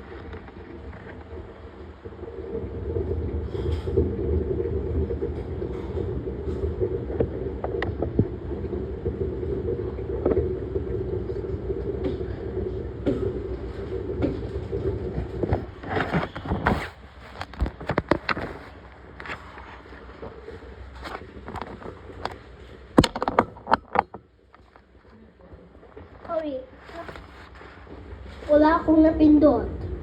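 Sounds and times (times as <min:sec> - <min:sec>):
clattering and rattling: 0:00.0 - 0:25.0
washing machine motor hum: 0:00.0 - 0:30.0.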